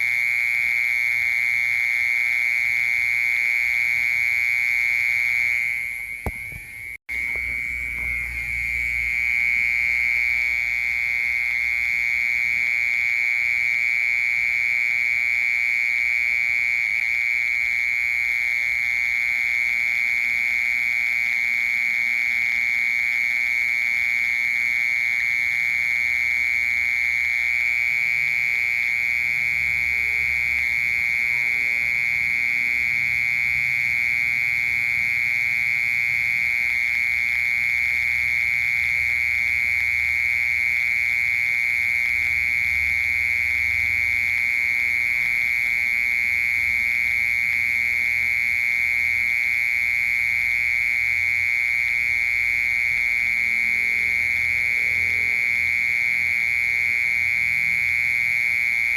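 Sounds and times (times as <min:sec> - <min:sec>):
mole cricket trilling: 0:00.0 - 0:58.9.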